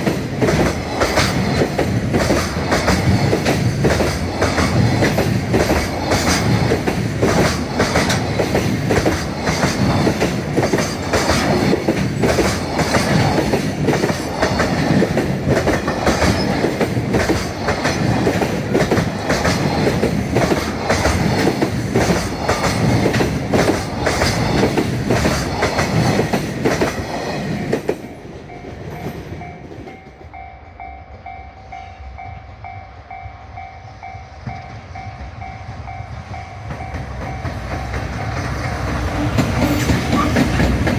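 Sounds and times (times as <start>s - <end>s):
train wheels clattering: 0.0s - 30.5s, 34.4s - 40.9s
freight train rushing past: 0.0s - 40.9s.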